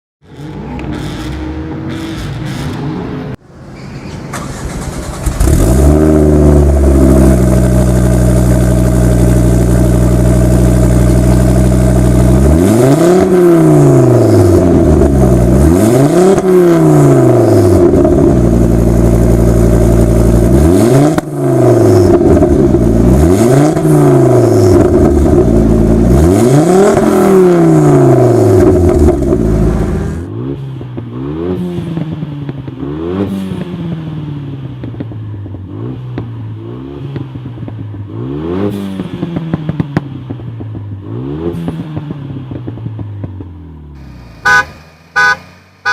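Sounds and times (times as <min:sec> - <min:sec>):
car engine revving: 0:04.3 - 0:45.9.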